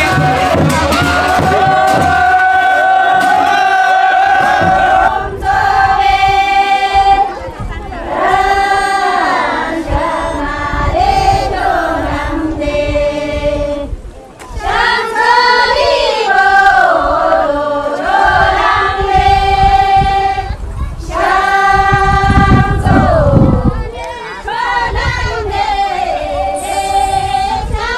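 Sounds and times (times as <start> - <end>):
group singing a chant: 0.0 - 27.9.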